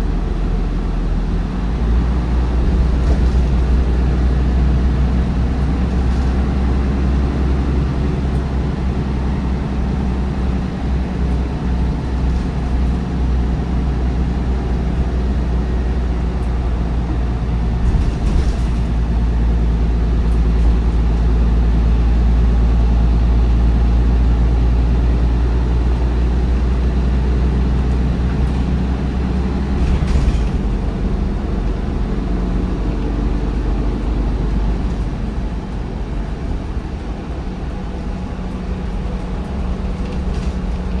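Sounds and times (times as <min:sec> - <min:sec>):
diesel bus engine droning: 0:00.0 - 0:41.0.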